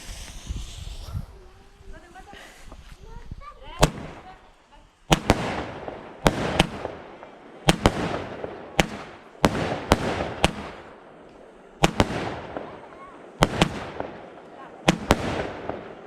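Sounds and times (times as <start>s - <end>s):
firework bangs: 0.0s - 2.8s, 3.6s - 16.0s
firework hiss: 0.0s - 16.0s.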